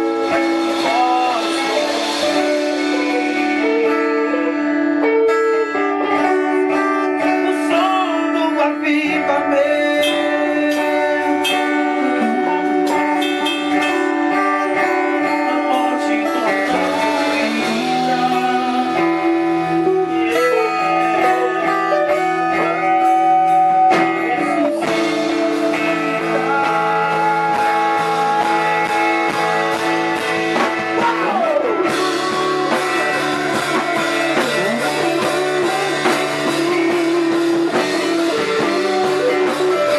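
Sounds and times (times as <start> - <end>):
guitar sustained gliding notes: 0.0 - 39.9
live band music: 0.0 - 39.9.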